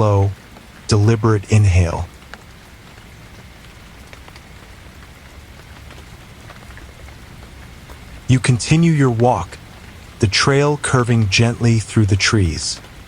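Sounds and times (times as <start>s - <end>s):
raindrops ticking: 0.0s - 13.0s
steady gentle rain: 0.0s - 13.0s.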